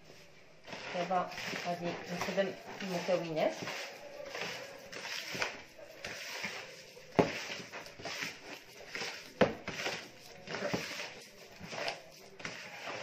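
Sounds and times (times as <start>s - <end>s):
hand squelching butter and sugar: 0.0s - 13.0s.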